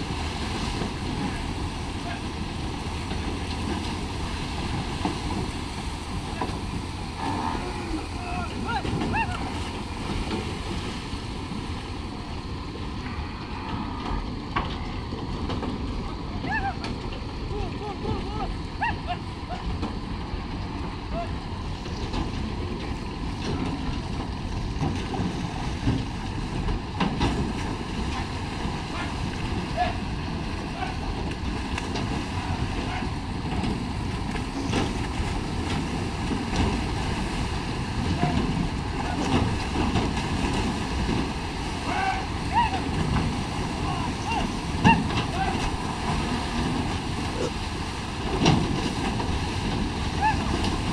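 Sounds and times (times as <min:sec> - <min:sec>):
river water: 0:00.0 - 0:50.9
wind rumbling on microphone: 0:00.0 - 0:50.9.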